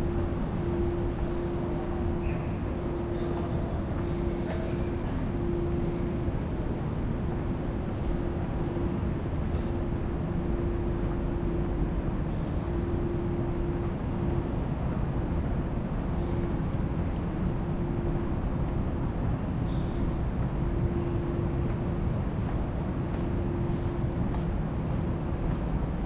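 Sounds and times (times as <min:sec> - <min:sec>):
faint mid-pitched hum: 0:00.0 - 0:26.0
steady rumbling background noise: 0:00.0 - 0:26.0.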